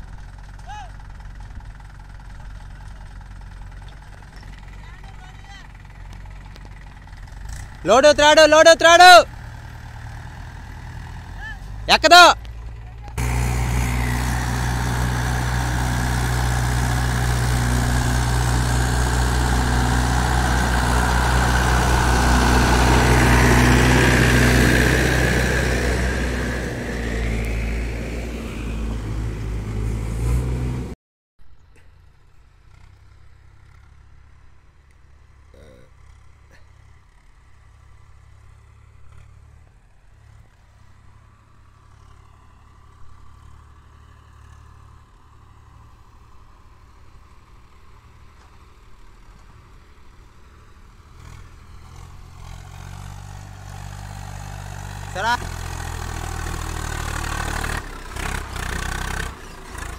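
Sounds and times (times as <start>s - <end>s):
tractor diesel engine under load: 0.0s - 31.0s, 31.6s - 59.9s.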